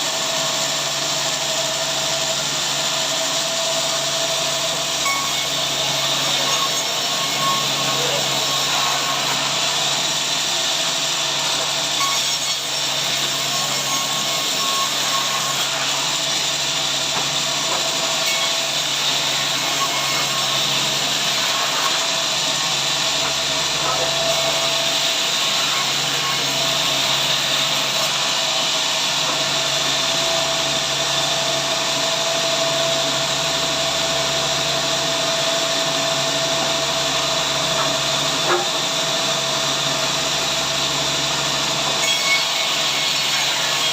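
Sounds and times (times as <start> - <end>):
power saw cutting timber: 0.0 - 43.9.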